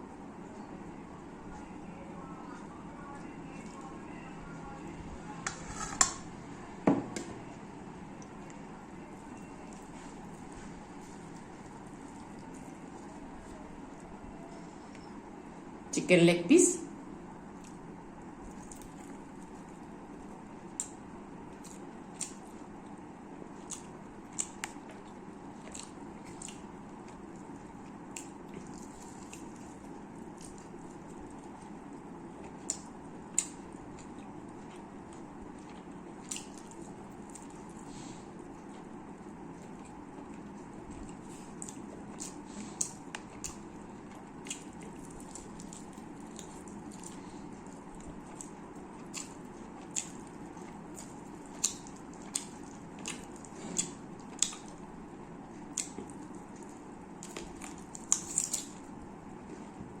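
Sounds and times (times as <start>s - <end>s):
soft chewing and squishing: 0.0s - 6.2s, 7.5s - 15.8s, 16.9s - 60.0s
steady background hum: 0.0s - 60.0s.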